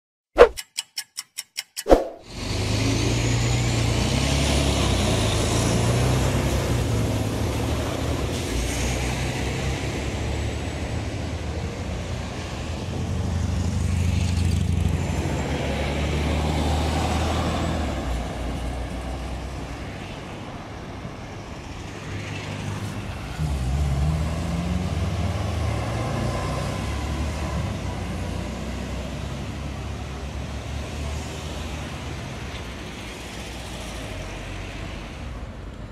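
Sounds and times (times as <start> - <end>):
road traffic passing: 1.9 - 35.9
bus engines passing: 2.3 - 35.9.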